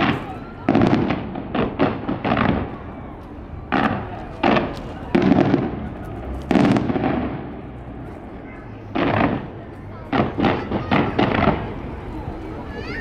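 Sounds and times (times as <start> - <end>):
fireworks bursting with sharp bangs: 0.0 - 12.4.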